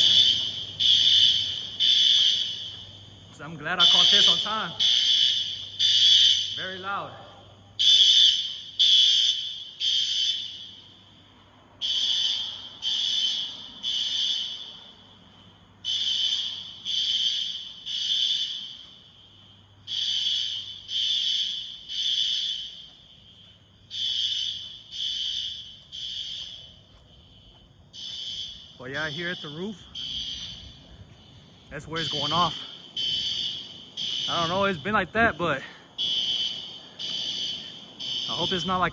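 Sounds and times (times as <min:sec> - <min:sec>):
fire alarm horn blasts: 0:00.0 - 0:38.9.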